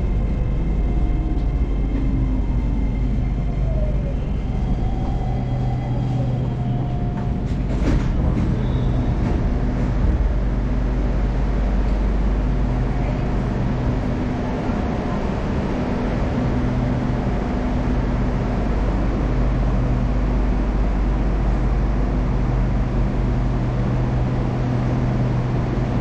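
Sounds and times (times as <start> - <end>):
train cabin hum and rush: 0.0 - 26.0.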